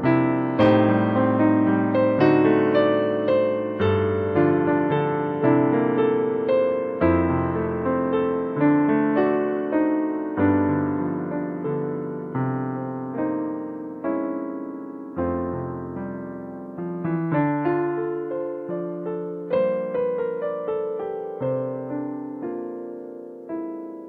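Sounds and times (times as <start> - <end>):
digital piano slow waltz: 0.0 - 24.0.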